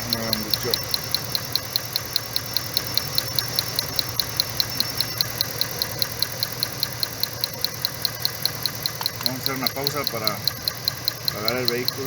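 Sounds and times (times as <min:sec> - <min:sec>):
engine idling: 0:00.0 - 0:12.0
spark snapping ticks: 0:00.0 - 0:12.0.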